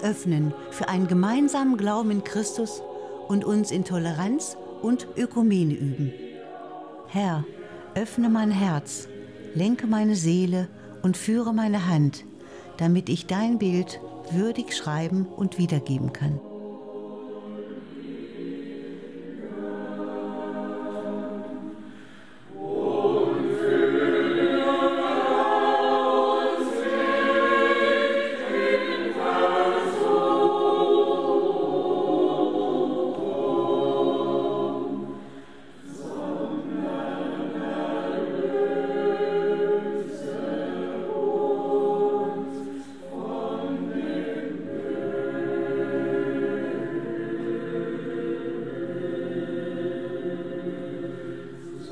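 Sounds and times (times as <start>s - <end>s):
choir singing slow chant: 0.0s - 51.9s.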